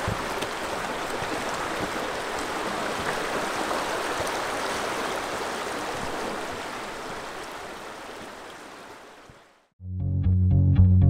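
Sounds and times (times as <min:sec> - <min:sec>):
river water rushing: 0:00.0 - 0:09.7.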